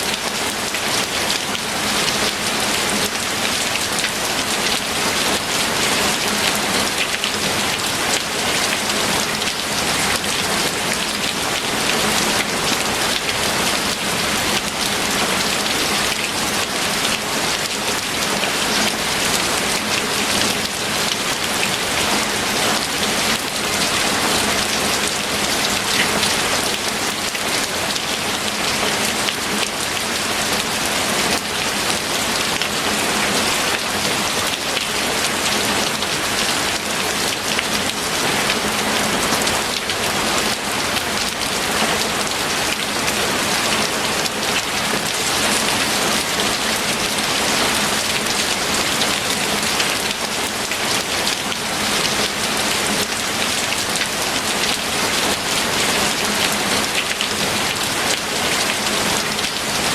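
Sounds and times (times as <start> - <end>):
heavy rain on a surface: 0.0 - 59.9.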